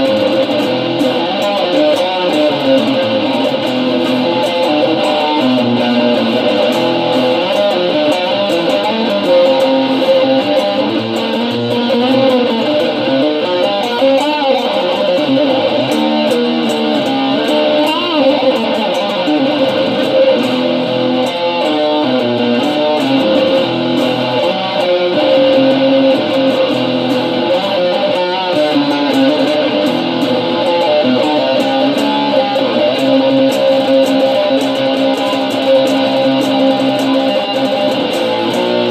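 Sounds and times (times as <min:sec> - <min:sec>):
guitar playing: 0:00.0 - 0:38.9.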